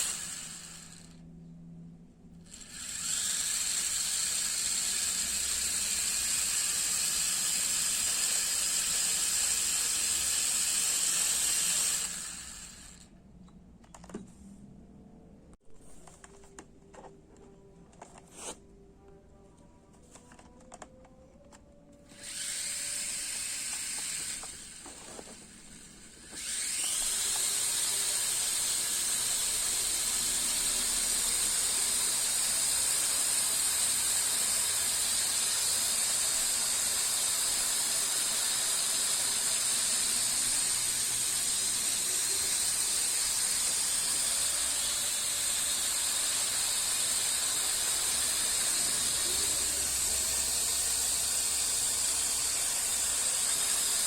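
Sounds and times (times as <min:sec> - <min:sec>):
quadcopter motors whining: 0:00.0 - 0:01.2, 0:02.4 - 0:13.1, 0:22.0 - 0:54.0.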